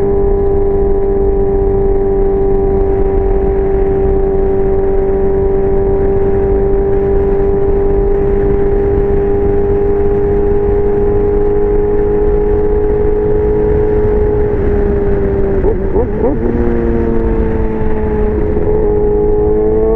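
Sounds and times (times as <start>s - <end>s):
motorcycle engine at high revs: 0.0s - 19.9s.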